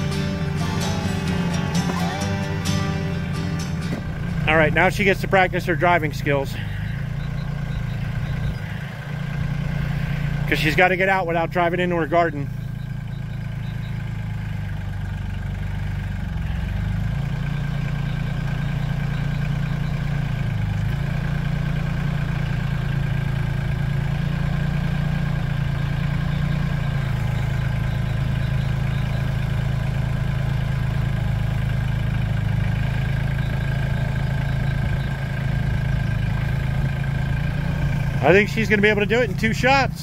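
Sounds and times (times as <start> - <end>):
tractor engine running under load: 0.0 - 40.0.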